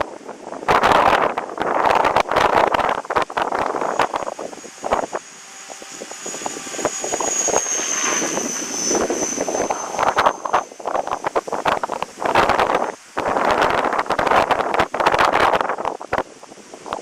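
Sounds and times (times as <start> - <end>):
wind buffeting microphone: 0.0 - 17.0
model helicopter whine: 0.7 - 17.0.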